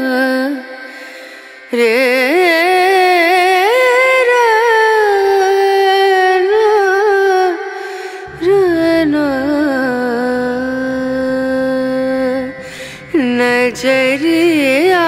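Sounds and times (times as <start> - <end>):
person singing slow melody: 0.0 - 15.0.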